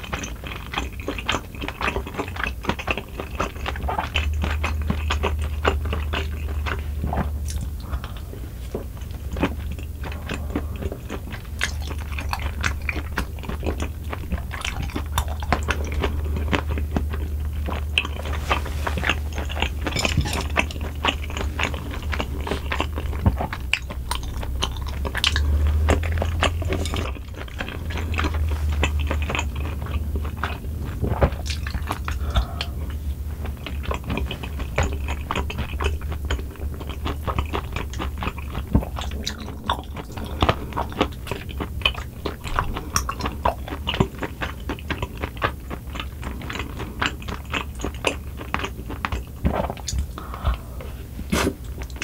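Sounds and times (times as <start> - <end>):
low steady hum: 0.0 - 52.0
wet chewing with mouth clicks: 0.0 - 52.0.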